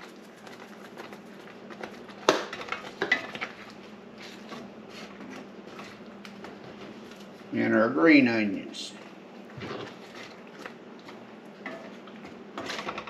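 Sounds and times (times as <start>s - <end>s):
wooden spatula stirring sauce: 0.0s - 7.5s, 9.0s - 13.0s.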